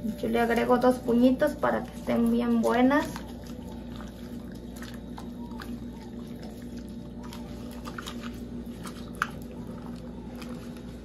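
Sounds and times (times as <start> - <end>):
steady low hum: 0.0 - 11.0
wet squelches and clicks: 0.4 - 11.0.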